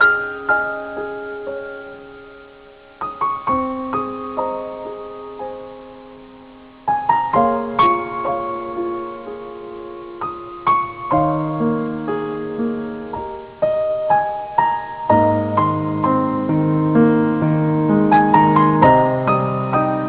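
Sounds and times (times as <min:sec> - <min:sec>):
soft solo piano: 0:00.0 - 0:20.0.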